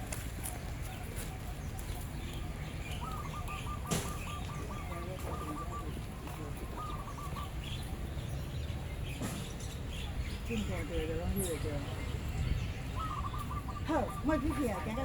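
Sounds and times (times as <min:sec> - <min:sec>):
bird calling: 0:00.0 - 0:15.0
outdoor background noise: 0:00.0 - 0:15.0.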